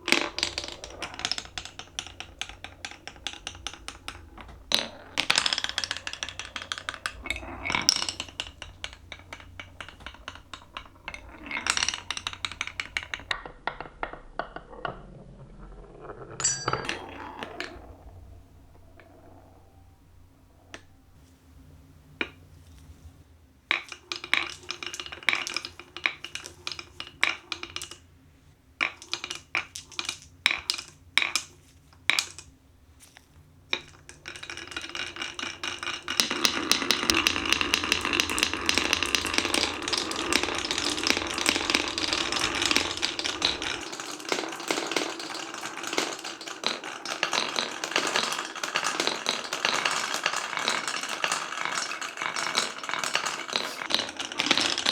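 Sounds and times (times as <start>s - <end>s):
marbles rolling on wooden track: 0.0s - 28.1s, 28.8s - 54.9s.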